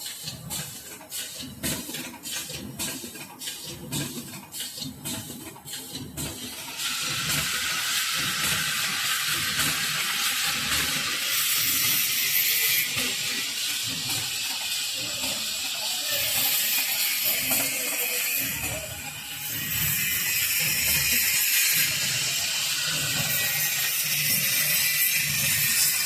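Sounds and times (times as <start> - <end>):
packing machine clatter and hiss: 0.0 - 26.0.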